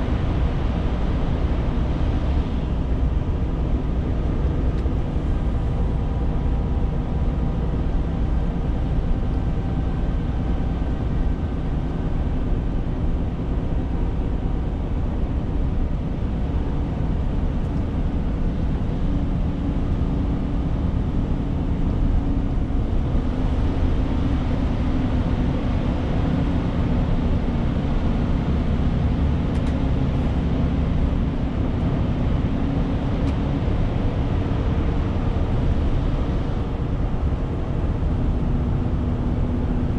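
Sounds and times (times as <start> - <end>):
road and wind noise: 0.0 - 39.9
truck engine drone: 0.0 - 39.9.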